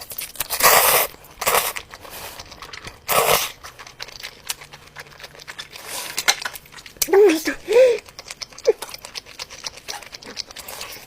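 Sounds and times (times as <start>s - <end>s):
crunching eating sounds: 0.0s - 11.0s.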